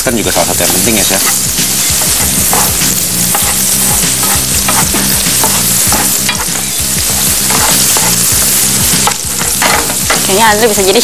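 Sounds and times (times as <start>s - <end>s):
garlic and onion sizzling in oil: 0.0s - 11.0s
wooden spatula scraping pan: 0.3s - 10.4s.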